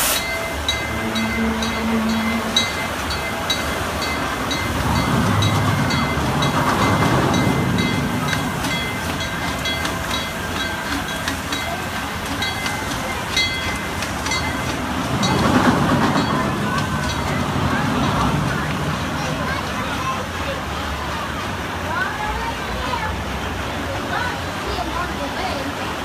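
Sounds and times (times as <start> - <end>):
small steam locomotive passing: 0.0 - 26.0.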